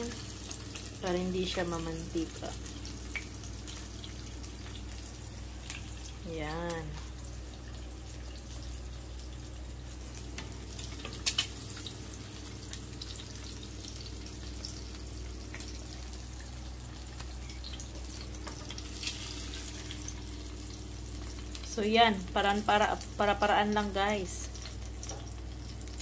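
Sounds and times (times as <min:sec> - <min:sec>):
eggs sizzling in oil: 0:00.0 - 0:26.0.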